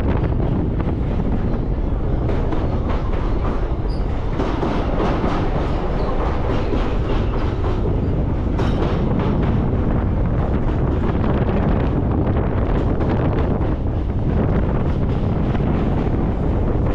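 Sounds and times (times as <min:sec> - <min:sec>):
train rumble: 0:00.0 - 0:16.9
wheels clattering over rails: 0:00.1 - 0:16.9.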